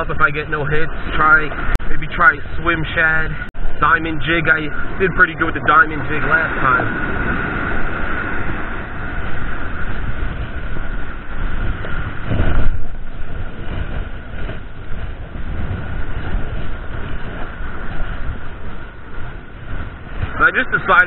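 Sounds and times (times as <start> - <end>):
surf washing: 0.0 - 21.0
wind buffeting microphone: 0.0 - 21.0.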